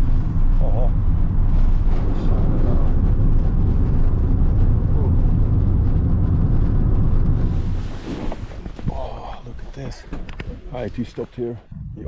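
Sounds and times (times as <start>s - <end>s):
car driving interior rumble: 0.0s - 9.9s.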